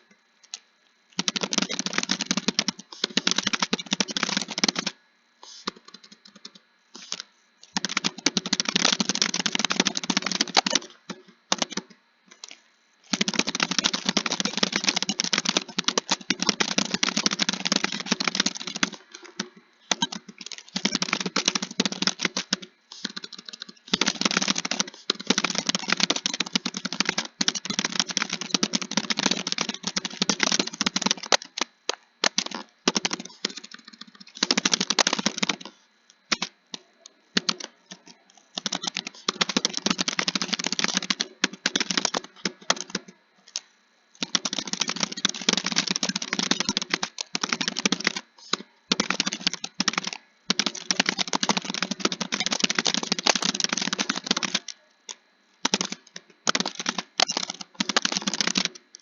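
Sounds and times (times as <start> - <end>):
fast typing on keyboard: 1.2 - 43.6, 44.2 - 59.0.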